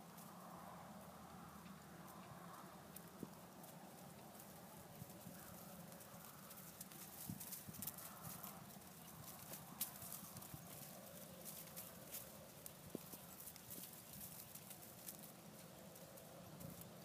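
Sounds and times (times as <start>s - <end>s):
hoofbeats on soft dirt: 1.2s - 17.0s.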